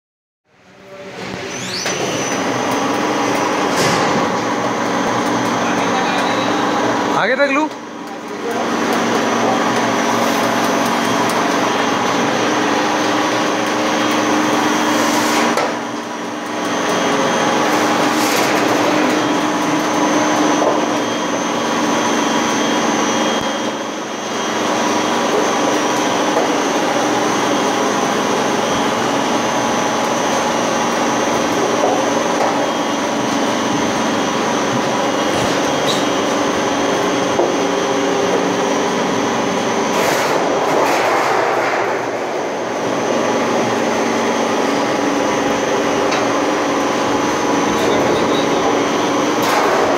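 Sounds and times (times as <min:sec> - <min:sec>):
roll forming machine droning: 0:00.5 - 0:49.9.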